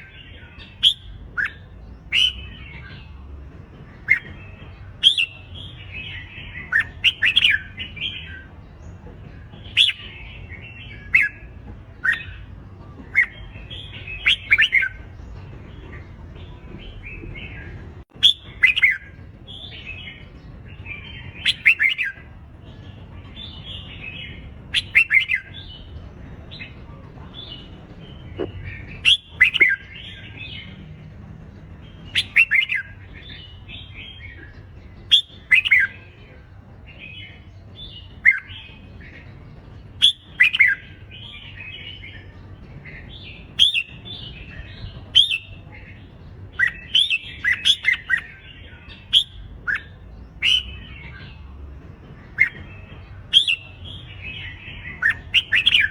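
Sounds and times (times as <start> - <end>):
birds chattering song: 0.0 - 55.9.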